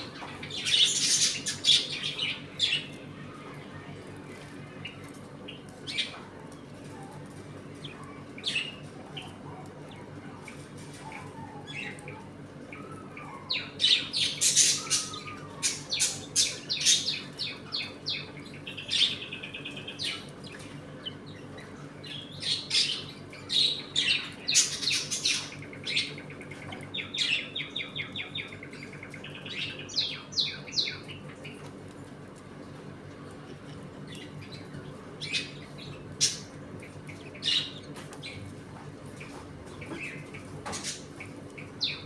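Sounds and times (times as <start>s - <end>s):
budgerigars chirping and chattering: 0.0s - 42.0s.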